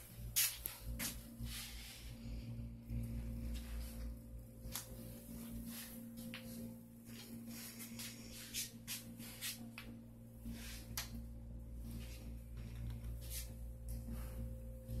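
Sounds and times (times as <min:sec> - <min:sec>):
electrical equipment hum: 0:00.0 - 0:15.0.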